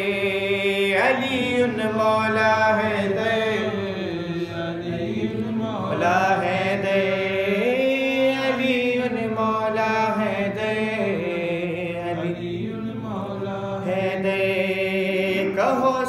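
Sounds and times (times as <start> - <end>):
man chanting in held notes: 0.0 - 16.0.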